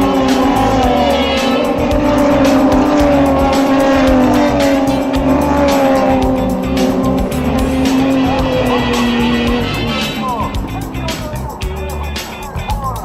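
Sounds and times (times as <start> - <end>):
music with steady beat: 0.0 - 13.0
race car engines revving: 0.0 - 13.0.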